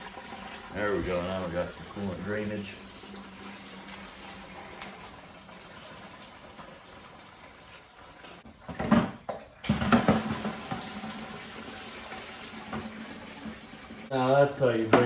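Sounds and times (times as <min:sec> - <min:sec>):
coolant splashing into drain pan: 0:00.0 - 0:15.0.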